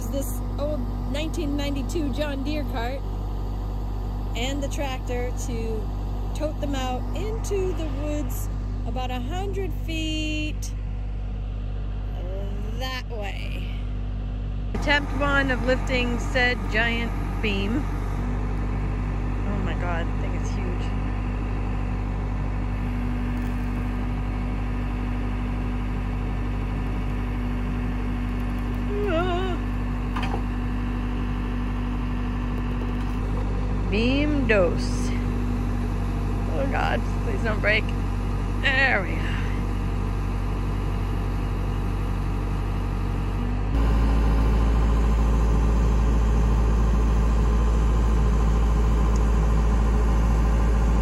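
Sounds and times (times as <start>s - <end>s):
tractor engine running: 0.0s - 51.0s.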